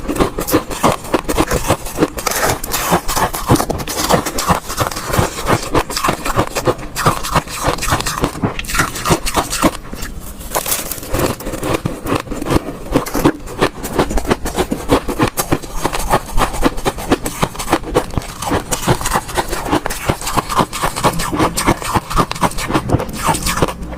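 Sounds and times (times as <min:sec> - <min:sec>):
ice cubes being chewed: 0:00.0 - 0:23.9.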